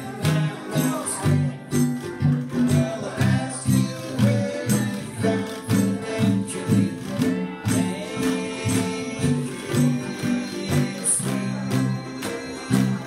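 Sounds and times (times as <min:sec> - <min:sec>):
acoustic string instrument strumming: 0:00.0 - 0:13.0.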